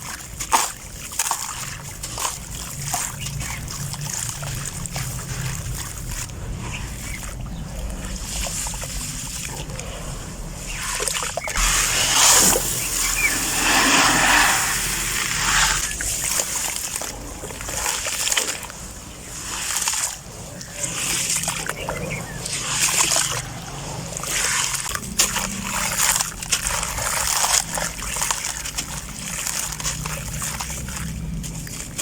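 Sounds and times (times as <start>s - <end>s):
water splashing and sloshing: 0.0s - 32.0s.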